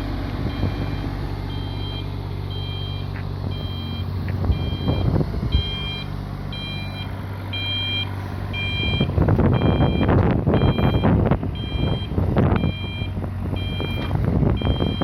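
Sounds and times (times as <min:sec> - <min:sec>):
excavator engine running: 0:00.0 - 0:15.0
excavator warning alarm beeping: 0:00.4 - 0:15.0.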